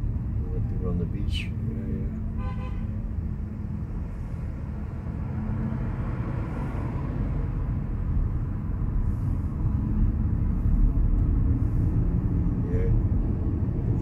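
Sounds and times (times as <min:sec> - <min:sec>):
road and tyre rumble: 0:00.0 - 0:14.0.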